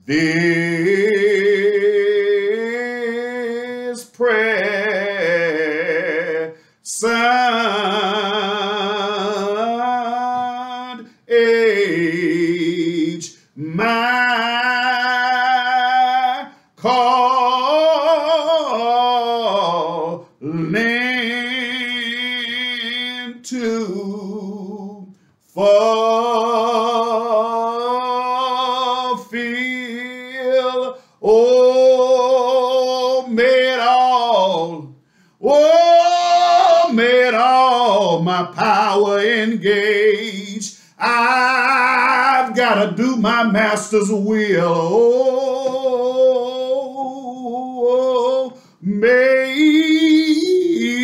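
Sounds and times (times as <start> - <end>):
man singing a hymn: 0.0 - 51.0.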